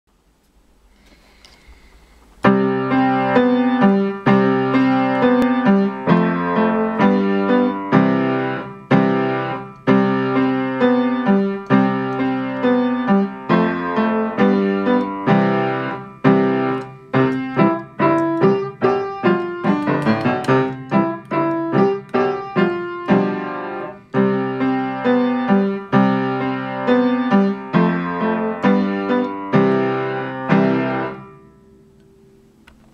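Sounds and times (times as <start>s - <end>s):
upright piano piece: 2.4s - 32.6s.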